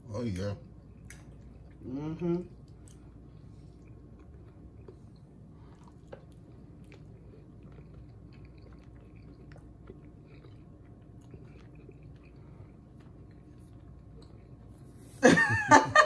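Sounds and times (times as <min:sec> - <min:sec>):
man chewing food: 0:00.7 - 0:15.2.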